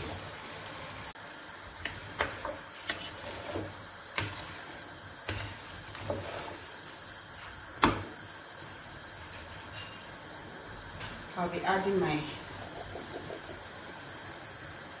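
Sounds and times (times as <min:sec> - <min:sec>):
spatula stirring vegetables: 0:01.5 - 0:15.0.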